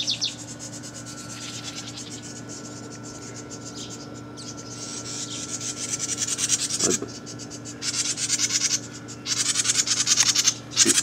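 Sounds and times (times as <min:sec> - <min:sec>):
bird chattering in alarm: 0:00.0 - 0:11.0.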